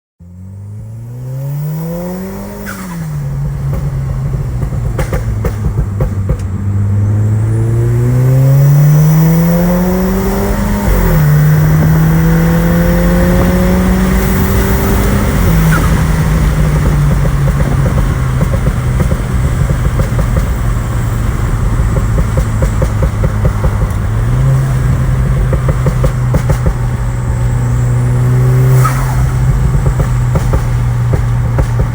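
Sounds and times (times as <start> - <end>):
car engine revving: 0.2 - 31.9
exhaust crackles and pops: 2.6 - 6.6, 10.0 - 31.9.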